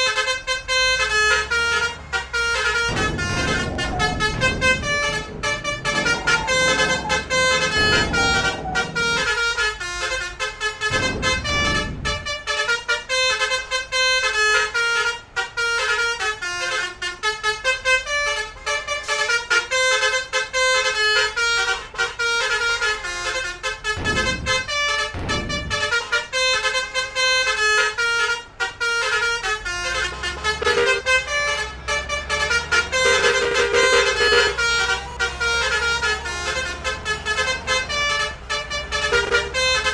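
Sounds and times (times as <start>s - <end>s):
musical bus horn tune: 0.0s - 39.9s
vehicle engine: 0.0s - 39.9s.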